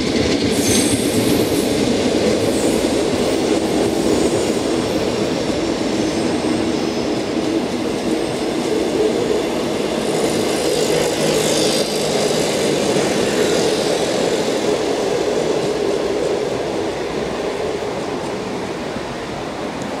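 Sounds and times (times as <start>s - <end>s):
train coaches rumbling on rails: 0.0s - 20.0s.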